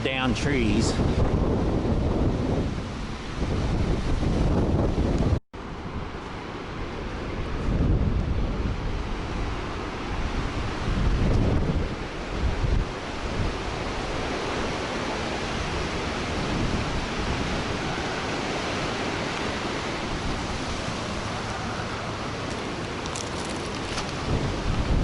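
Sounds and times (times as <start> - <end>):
gusty wind buffeting microphone: 0.0 - 25.0.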